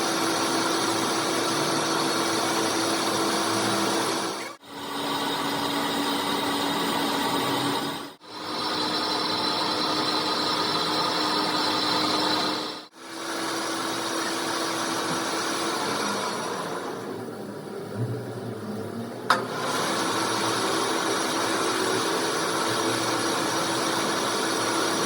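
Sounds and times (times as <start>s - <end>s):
power tool whining: 0.0s - 17.2s, 19.3s - 25.0s.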